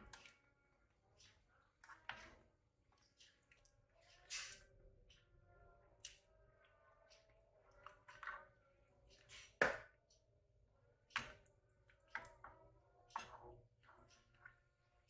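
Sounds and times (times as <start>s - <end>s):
curry sloshing in saucepan: 0.0s - 5.3s, 6.6s - 9.9s, 11.1s - 15.0s.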